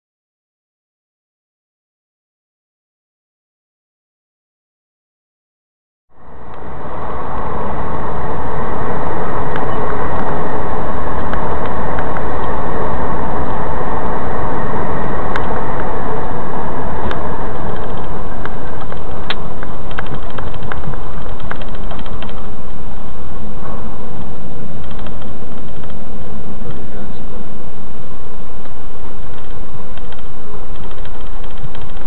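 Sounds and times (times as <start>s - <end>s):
vehicle engine and road noise: 6.1s - 32.0s.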